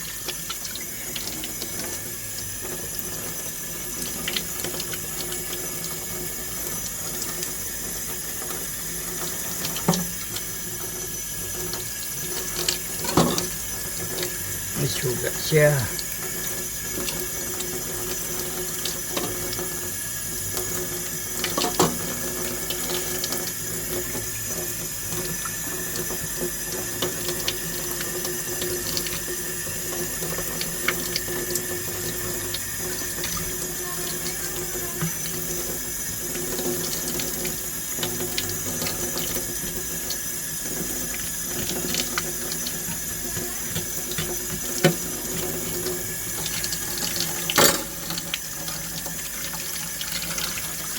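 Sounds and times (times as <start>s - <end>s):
tap water running into sink: 0.0s - 50.9s.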